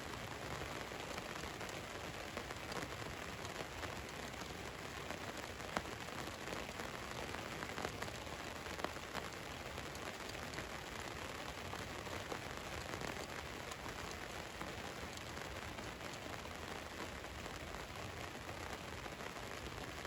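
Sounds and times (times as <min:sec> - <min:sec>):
rain on a vehicle roof: 0:00.0 - 0:20.0.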